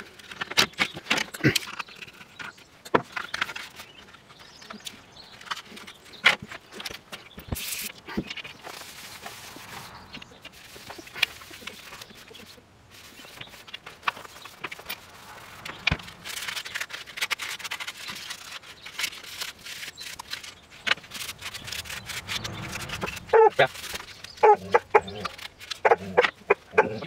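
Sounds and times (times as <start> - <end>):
rubbing and scraping on helmet: 0.0 - 27.0.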